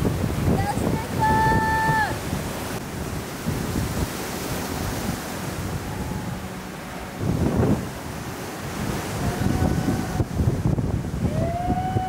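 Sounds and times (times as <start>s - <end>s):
breaking surf: 0.0s - 12.0s
wind buffeting microphone: 0.0s - 12.0s.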